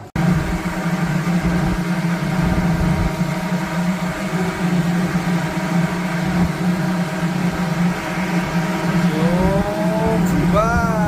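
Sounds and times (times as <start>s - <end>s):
loud machine hum: 0.0s - 11.0s.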